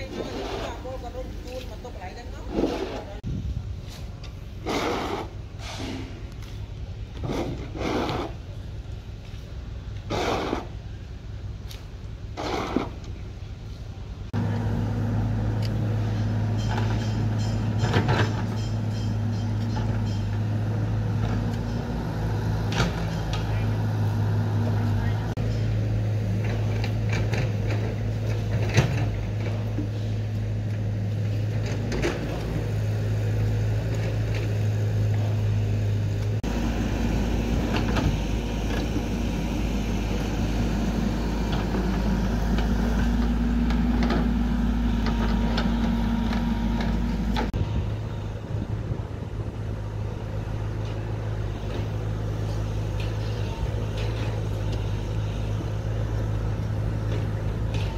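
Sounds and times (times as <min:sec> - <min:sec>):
construction machinery engine running: 0:00.0 - 0:57.9.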